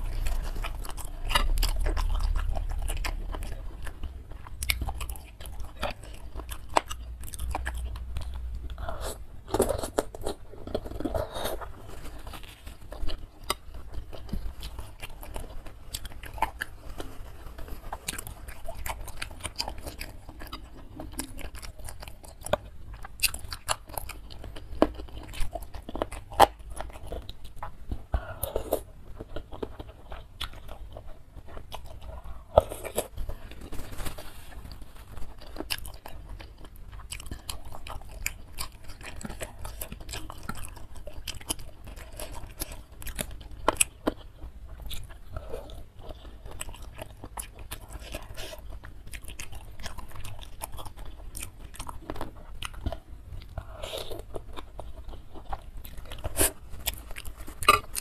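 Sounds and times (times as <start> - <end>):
close chewing with wet mouth clicks: 0.0 - 33.5, 34.7 - 58.0.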